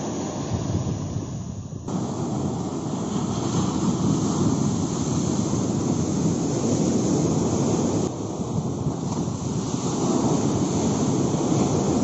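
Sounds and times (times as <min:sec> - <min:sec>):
surf washing up a beach: 0:00.0 - 0:12.0.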